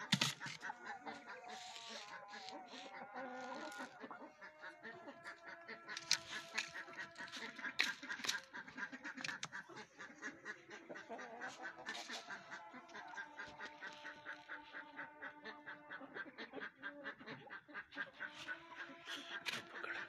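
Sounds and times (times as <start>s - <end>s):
poultry calling: 0.0s - 20.0s.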